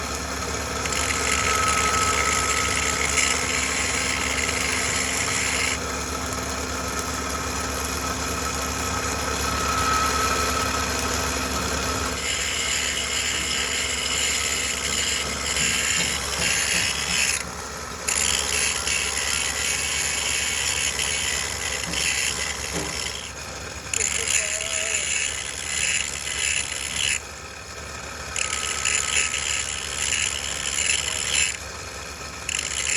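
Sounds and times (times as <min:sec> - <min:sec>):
machine tool motor hum: 0:00.0 - 0:32.9.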